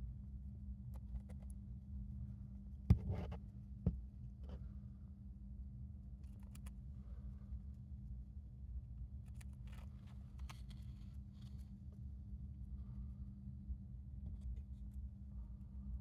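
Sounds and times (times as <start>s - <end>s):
steady low hum: 1.5s - 16.0s.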